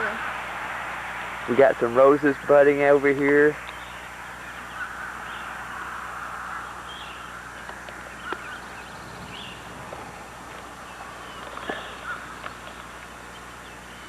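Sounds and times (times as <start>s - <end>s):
faint birds chirping: 0.0s - 14.0s
outdoor hiss: 0.0s - 14.0s.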